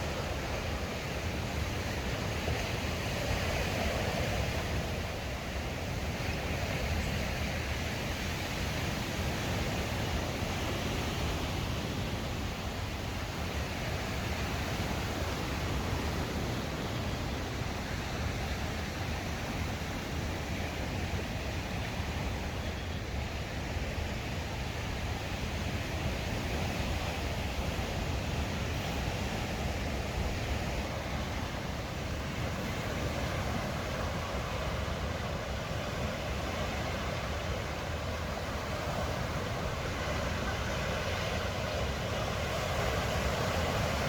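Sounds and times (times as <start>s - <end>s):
lake waves washing on shore: 0.0s - 44.0s
wind: 0.0s - 44.0s.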